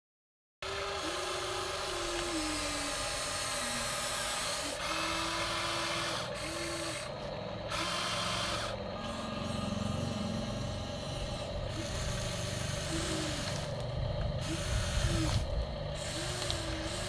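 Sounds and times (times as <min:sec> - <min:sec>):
toy excavator electric motors whining: 0:00.6 - 0:17.0.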